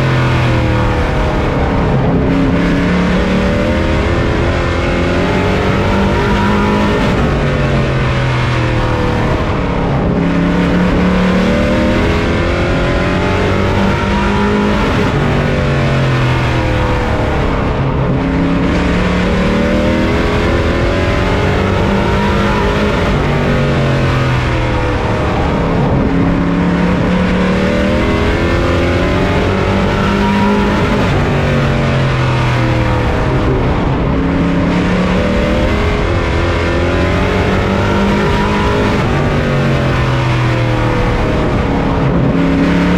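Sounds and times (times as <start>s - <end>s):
race truck engine: 0.0s - 42.9s
wind and tyre noise: 0.0s - 42.9s.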